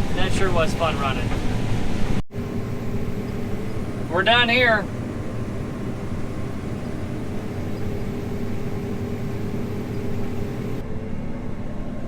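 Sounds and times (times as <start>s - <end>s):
machine drone in cab: 0.0s - 12.0s
steady hum: 0.0s - 12.0s.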